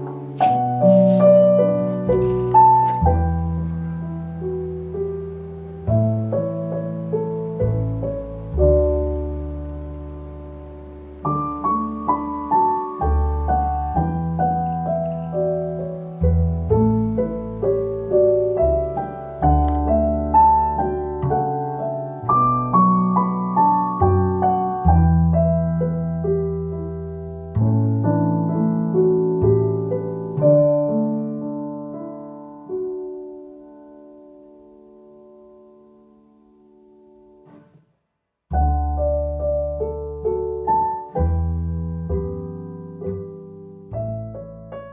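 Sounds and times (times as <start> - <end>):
piano melody: 0.0 - 37.9, 38.5 - 44.9.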